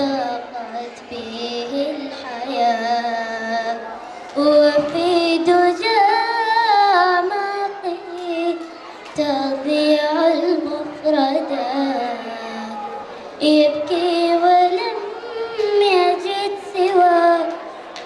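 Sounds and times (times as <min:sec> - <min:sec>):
girl singing into a microphone: 0:00.0 - 0:18.0.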